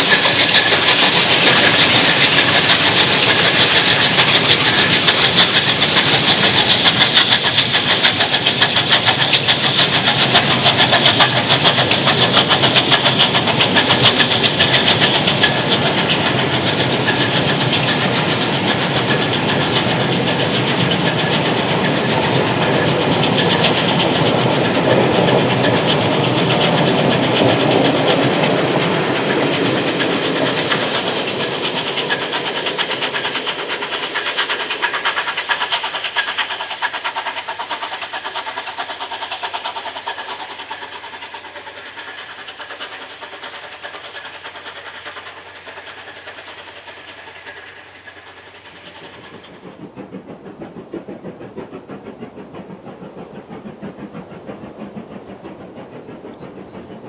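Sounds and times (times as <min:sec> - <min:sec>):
hissing steam: 0:00.0 - 0:57.0
steam locomotive exhaust beats: 0:00.0 - 0:57.0.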